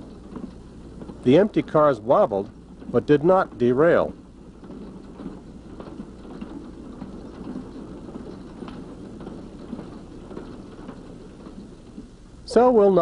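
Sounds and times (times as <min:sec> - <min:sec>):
freight cars rumbling: 0:00.0 - 0:13.0
wheel clicks: 0:00.0 - 0:13.0.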